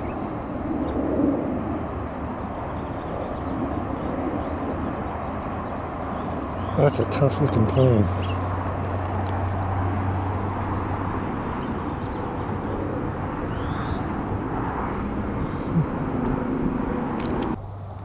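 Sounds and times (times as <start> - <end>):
small birds chirping: 0.0 - 1.0, 1.9 - 18.0
aircraft engine droning: 0.0 - 18.0.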